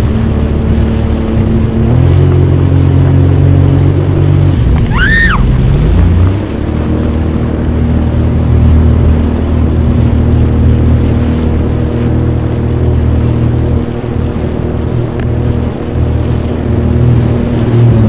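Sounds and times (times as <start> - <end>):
jet ski engine humming: 0.0 - 18.0
rushing water: 0.0 - 18.0
wind: 0.0 - 18.0.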